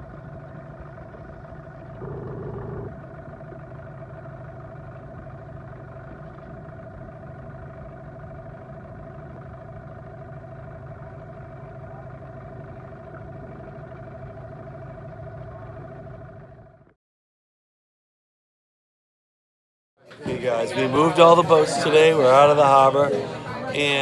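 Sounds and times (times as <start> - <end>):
engine running steadily: 0.0 - 17.0, 20.1 - 24.0.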